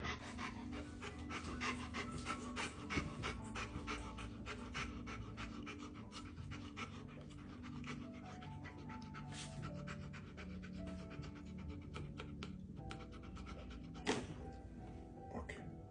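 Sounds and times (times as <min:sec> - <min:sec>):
dog panting: 0:00.0 - 0:14.8.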